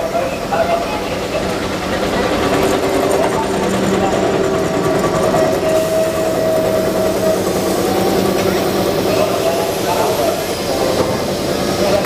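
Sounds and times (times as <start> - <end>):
steam train rolling past: 0.0 - 12.0.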